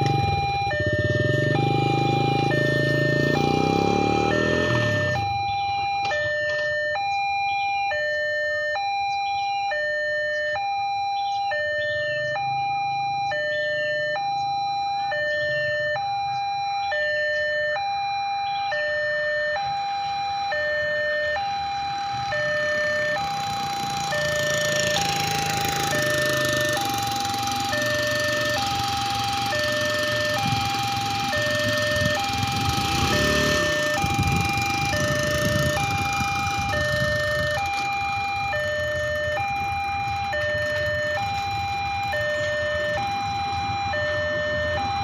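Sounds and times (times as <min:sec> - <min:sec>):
two-tone level crossing alarm: 0:00.0 - 0:45.0.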